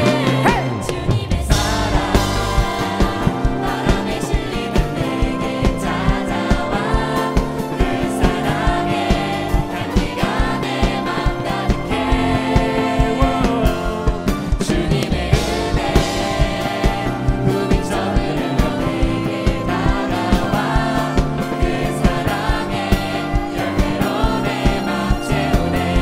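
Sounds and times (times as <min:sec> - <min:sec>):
bass guitar: 0:00.0 - 0:26.0
drums with steady beat: 0:00.0 - 0:26.0
keyboard: 0:00.0 - 0:26.0
singers singing together: 0:00.0 - 0:26.0.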